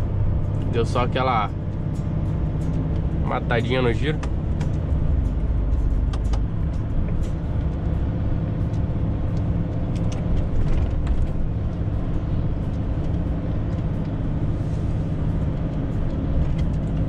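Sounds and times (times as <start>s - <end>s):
diesel engine drone at high revs: 0.0s - 17.0s.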